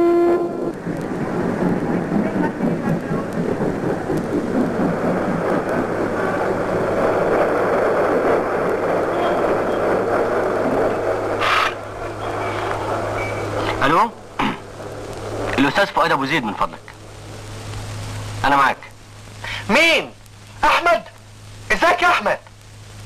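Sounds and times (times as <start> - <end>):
vehicle rumble: 0.0 - 19.5
constant low hum: 0.0 - 23.0.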